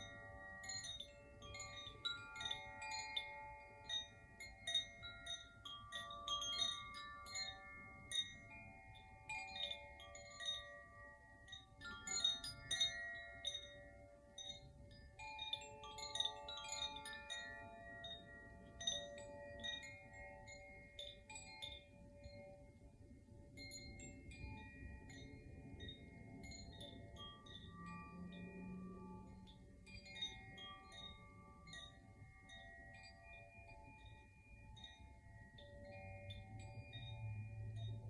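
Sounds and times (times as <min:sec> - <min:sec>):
bell-like chime melody: 0:00.0 - 0:38.0.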